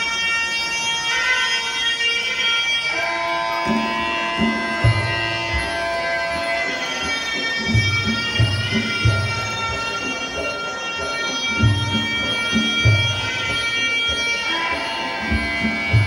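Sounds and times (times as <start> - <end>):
reedy oboe wavering notes: 0.0 - 16.0.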